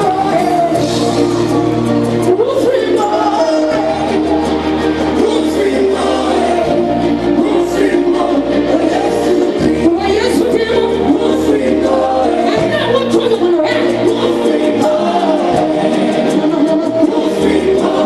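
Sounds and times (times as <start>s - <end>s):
gospel band playing: 0.0s - 18.0s
person singing: 0.0s - 18.0s.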